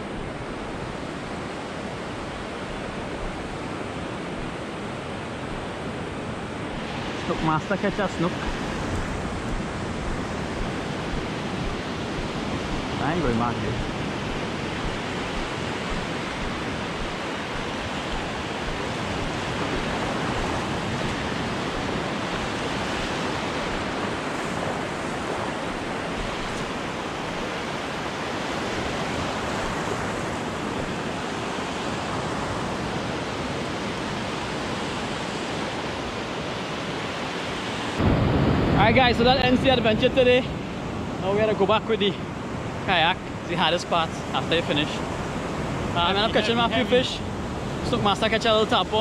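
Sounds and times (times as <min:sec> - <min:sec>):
surf breaking on beach: 0:00.0 - 0:49.0.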